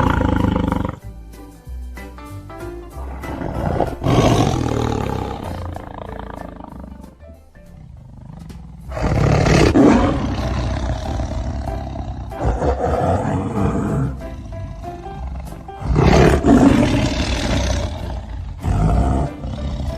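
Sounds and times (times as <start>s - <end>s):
tiger roaring: 0.0s - 1.0s, 3.0s - 7.2s, 7.8s - 19.9s
background music: 0.0s - 19.9s.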